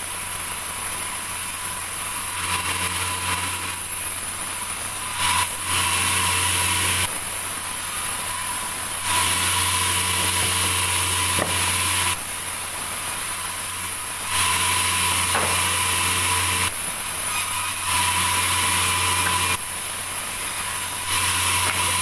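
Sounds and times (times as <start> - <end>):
sawmill saw cutting log: 0.0 - 22.0.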